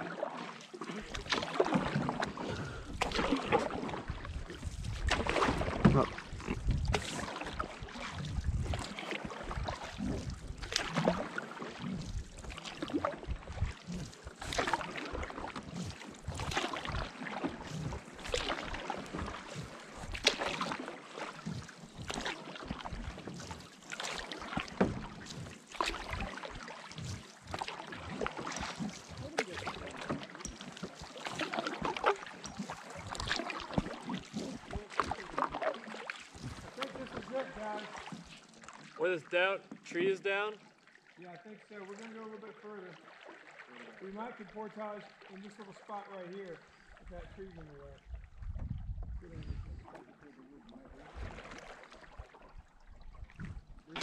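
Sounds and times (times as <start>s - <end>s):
paddle strokes splashing in water: 0.0s - 54.0s.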